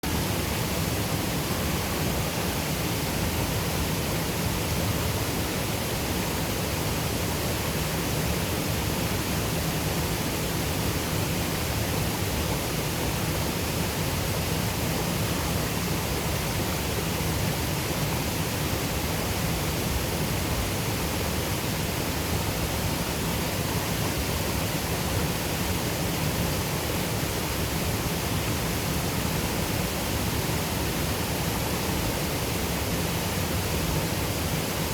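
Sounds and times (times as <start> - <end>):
rushing river water: 0.0 - 34.9
waterfall roaring: 0.0 - 34.9.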